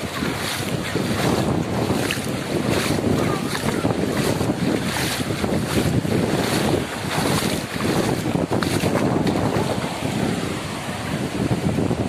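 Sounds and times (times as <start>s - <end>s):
feet splashing through water: 0.0s - 11.6s
shallow surf washing: 0.0s - 12.0s
wind buffeting microphone: 0.0s - 12.0s.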